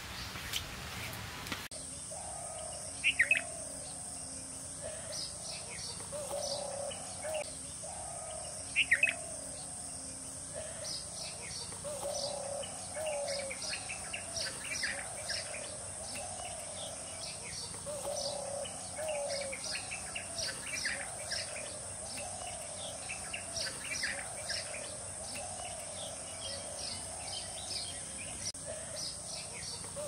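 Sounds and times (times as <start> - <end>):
birds chirping: 0.0 - 30.0
high insect drone: 1.7 - 30.0.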